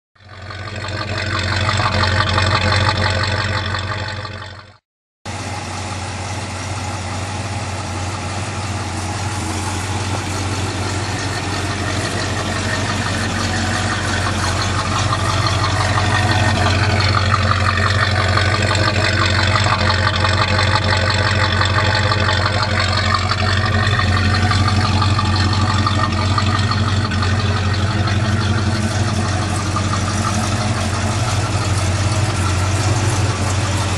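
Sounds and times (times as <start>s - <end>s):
pickup engine idling: 0.2s - 33.9s.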